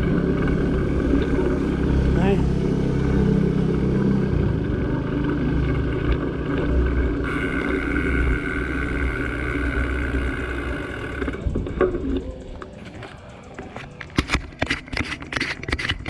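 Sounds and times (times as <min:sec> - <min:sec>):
small motorcycle engine running: 0:00.0 - 0:16.0.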